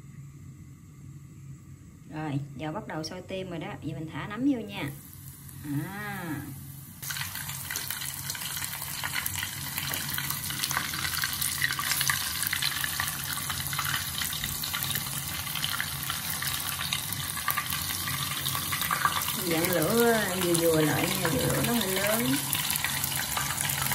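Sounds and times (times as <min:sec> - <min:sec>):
deep-frying sizzle in hot oil: 0:02.1 - 0:23.9.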